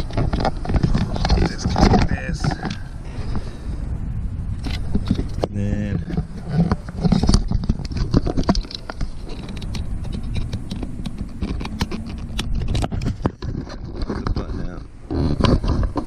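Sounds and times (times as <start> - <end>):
plastic clicks and scraping: 0.0 - 2.9, 4.6 - 16.0.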